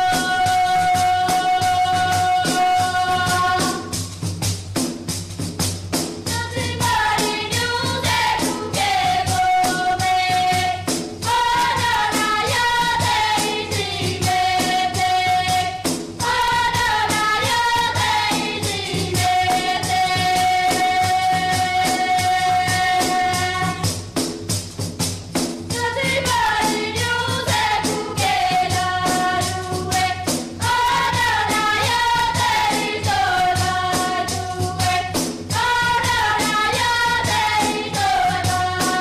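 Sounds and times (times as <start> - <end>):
women singing together: 0.0 - 4.1, 6.3 - 24.0, 25.7 - 39.0
drum beating quick rhythm: 0.0 - 39.0.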